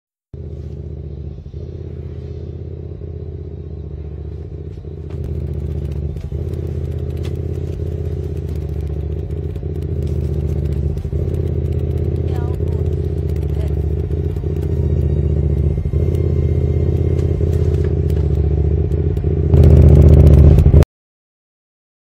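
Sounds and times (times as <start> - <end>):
vehicle engine droning: 0.3 - 20.8.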